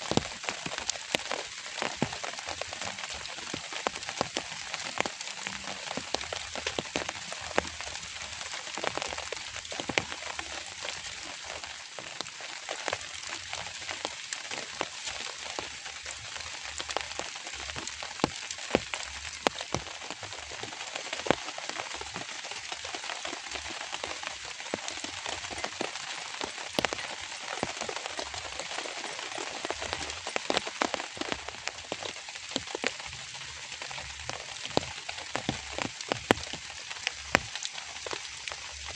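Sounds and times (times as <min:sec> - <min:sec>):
light rain patter: 0:00.0 - 0:38.9.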